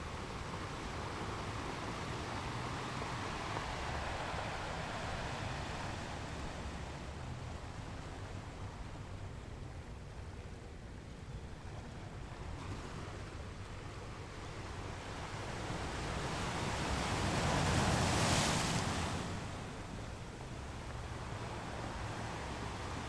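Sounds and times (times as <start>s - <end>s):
ocean waves on shore: 0.0s - 10.1s, 11.7s - 23.0s.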